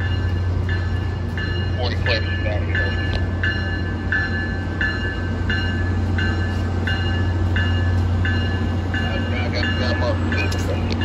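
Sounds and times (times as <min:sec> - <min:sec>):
bell ringing: 0:00.0 - 0:10.7
diesel locomotive humming: 0:00.0 - 0:11.0.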